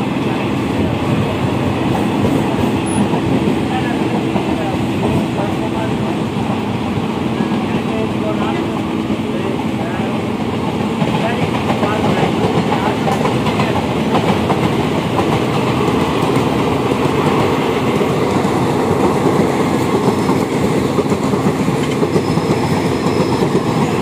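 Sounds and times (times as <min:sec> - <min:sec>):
clickety-clack of train wheels: 0:00.0 - 0:24.0
train rumbling past: 0:00.0 - 0:24.0.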